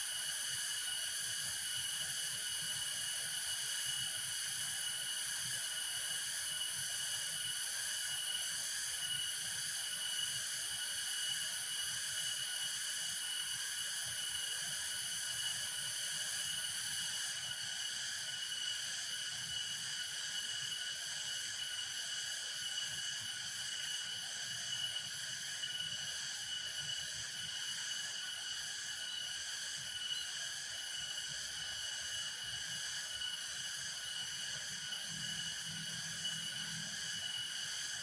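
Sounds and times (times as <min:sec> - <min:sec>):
insects pulsing chorus: 0:00.0 - 0:38.0.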